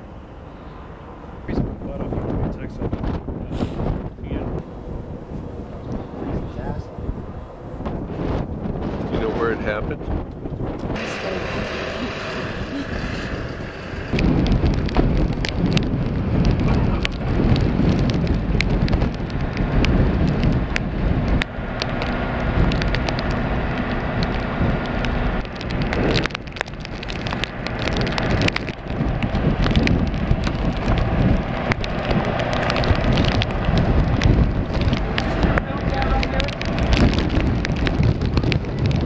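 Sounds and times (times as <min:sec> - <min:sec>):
rain pattering: 0:00.0 - 0:39.0
wind buffeting microphone: 0:00.0 - 0:39.0.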